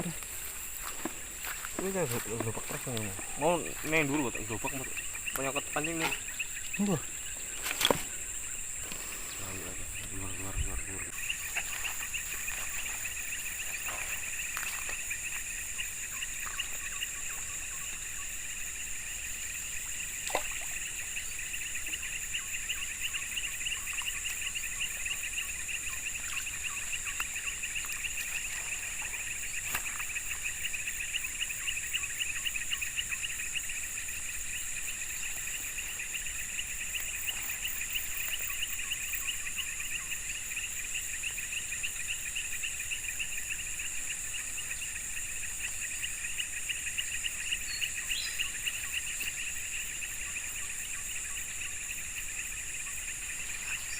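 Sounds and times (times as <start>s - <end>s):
insect high whine: 0.0s - 53.9s
insects trilling: 0.0s - 53.9s.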